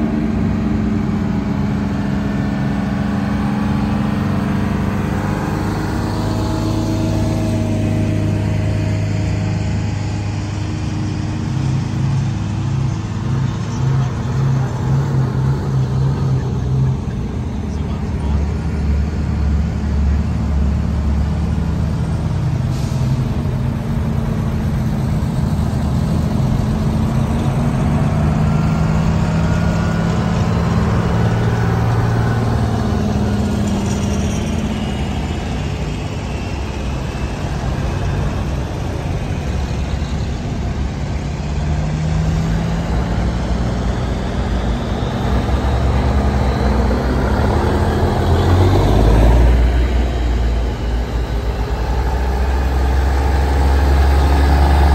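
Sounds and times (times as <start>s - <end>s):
trucks driving past: 0.0s - 54.9s.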